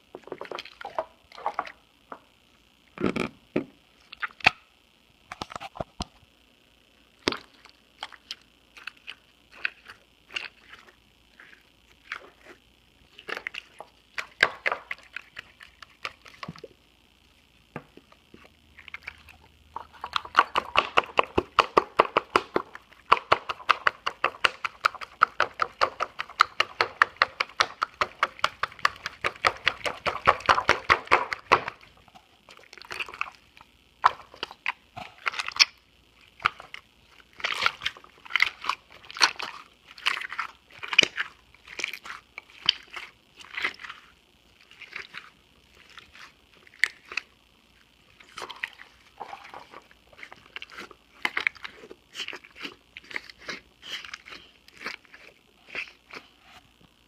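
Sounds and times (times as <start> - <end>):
slime squelching and popping: 0.0 - 2.3, 2.9 - 4.7, 7.2 - 56.8.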